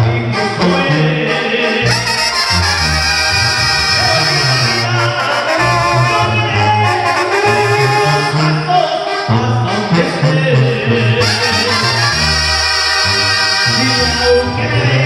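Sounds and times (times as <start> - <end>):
trumpets and trombones: 0.0 - 15.0
tuba bass line: 0.0 - 15.0.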